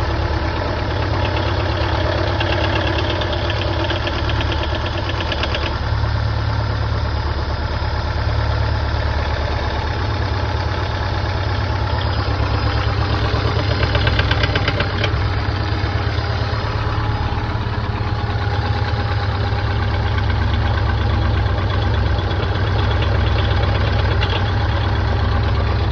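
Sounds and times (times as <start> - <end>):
fast even engine knocking: 0.0 - 6.1, 9.2 - 25.9
car engine idling: 0.0 - 25.9.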